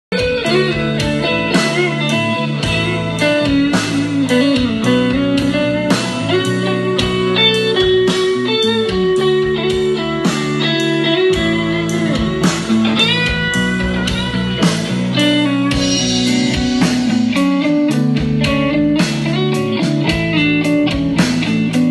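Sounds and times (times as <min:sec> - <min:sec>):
guitar-led music with steady beat: 0:00.1 - 0:21.9.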